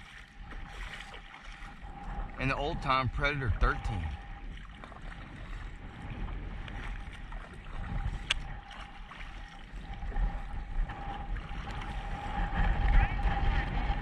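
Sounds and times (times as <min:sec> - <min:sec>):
paddle strokes: 0:00.0 - 0:14.0
water slapping against hull: 0:00.0 - 0:14.0
wind rumbling on microphone: 0:00.0 - 0:14.0.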